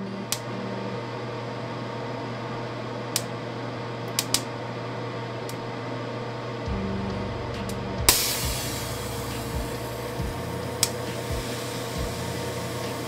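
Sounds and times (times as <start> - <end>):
ventilation fan humming: 0.0 - 13.0.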